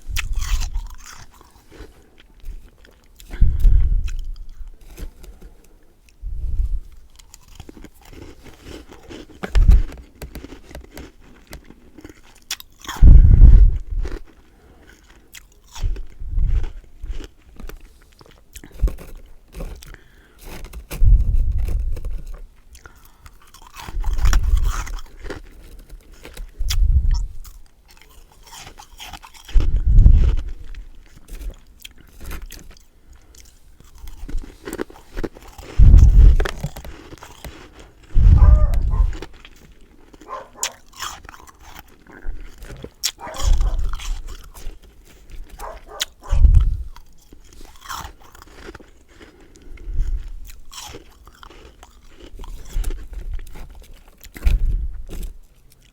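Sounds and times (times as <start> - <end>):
person crunching ice: 0.0 - 5.8, 6.4 - 55.9.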